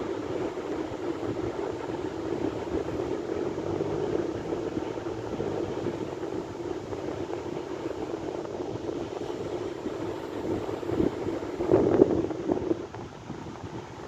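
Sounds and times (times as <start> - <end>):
sea waves washing onto shore: 0.0 - 14.0.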